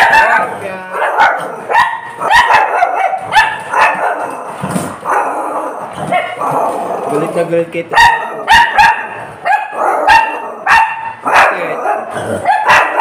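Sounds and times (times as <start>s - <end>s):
small dog barking: 0.0s - 6.7s, 7.9s - 13.0s.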